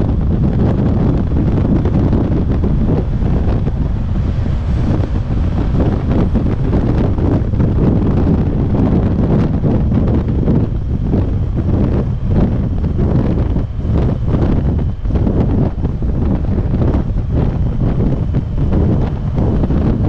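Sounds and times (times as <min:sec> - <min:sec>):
motorcycle running: 0:00.0 - 0:20.0
wind buffeting microphone: 0:00.0 - 0:20.0.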